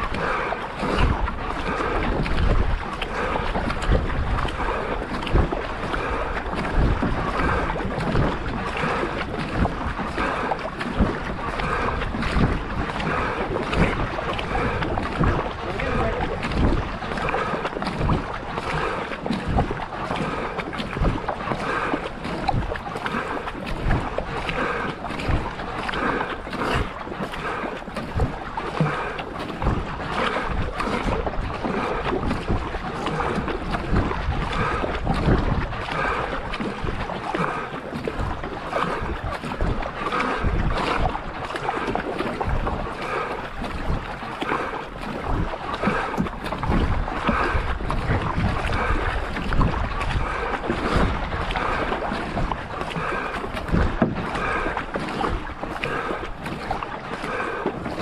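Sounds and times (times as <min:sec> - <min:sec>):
wind on microphone: 0:00.0 - 0:56.8
paddle strokes splashing water: 0:00.0 - 0:58.0
water rushing along hull: 0:00.0 - 0:58.0.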